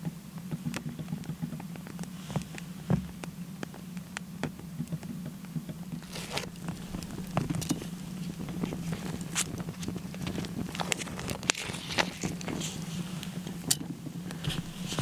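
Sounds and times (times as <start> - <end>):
steady low hum: 0.0 - 15.0
firewood crackling and popping: 0.3 - 15.0.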